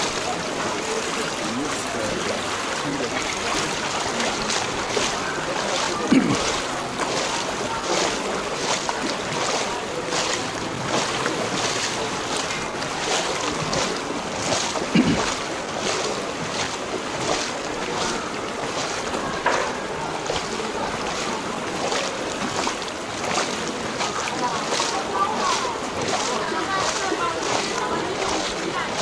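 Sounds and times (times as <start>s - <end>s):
footsteps sloshing through water: 0.0s - 29.0s
water washing: 0.0s - 29.0s.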